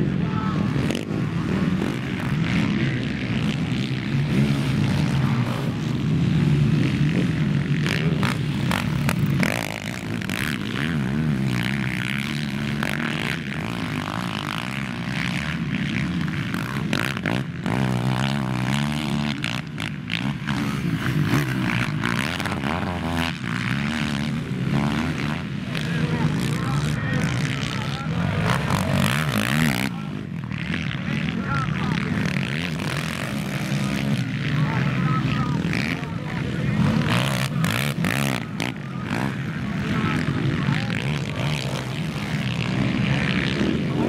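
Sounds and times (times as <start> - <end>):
quad engines revving: 0.0 - 44.0.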